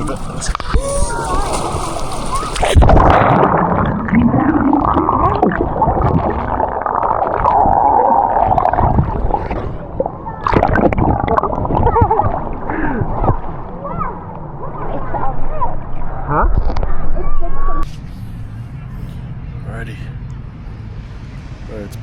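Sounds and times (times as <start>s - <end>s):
muffled gurgling seawater: 0.0s - 17.8s.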